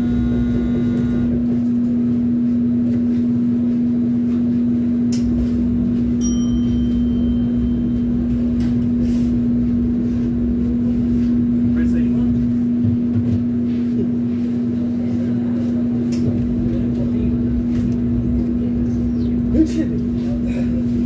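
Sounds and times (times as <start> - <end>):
kitchen machinery humming: 0.0 - 21.0.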